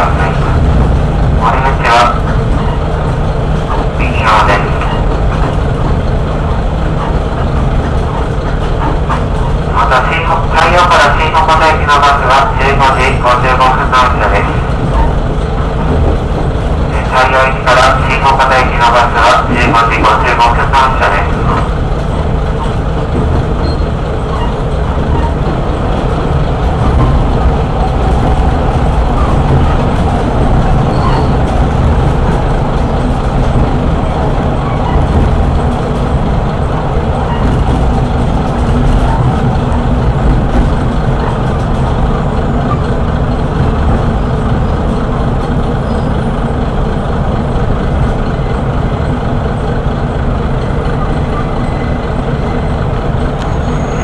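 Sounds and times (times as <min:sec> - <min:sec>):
diesel railcar engine running: 0:00.0 - 0:54.0
train wheels on rails: 0:00.0 - 0:54.0.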